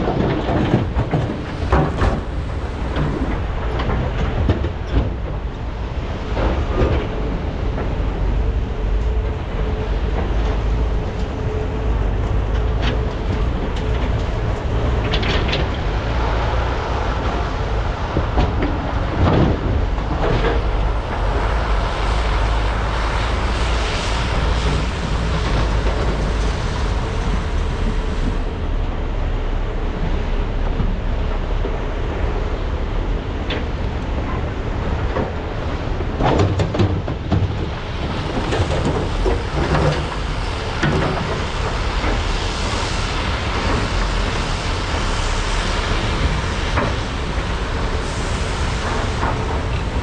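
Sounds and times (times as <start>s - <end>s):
excavator diesel engines running: 0.0s - 50.0s.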